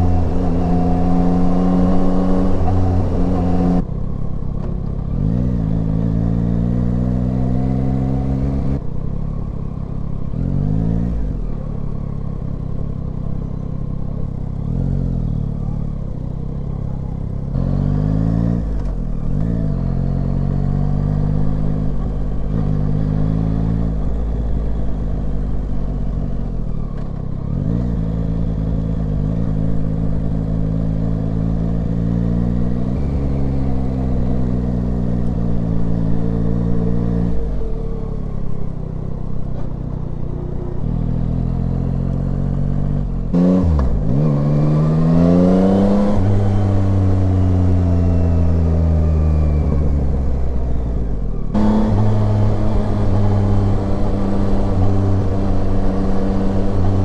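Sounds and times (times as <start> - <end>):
motorcycle engine revving: 0.0 - 3.8, 5.0 - 8.9, 9.7 - 57.0.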